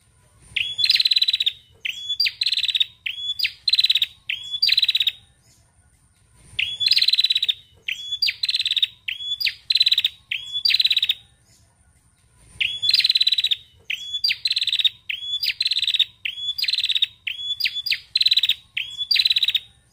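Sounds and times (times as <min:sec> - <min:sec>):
bird calling buzzy phrases: 0:00.5 - 0:05.3, 0:06.6 - 0:11.3, 0:12.6 - 0:19.8.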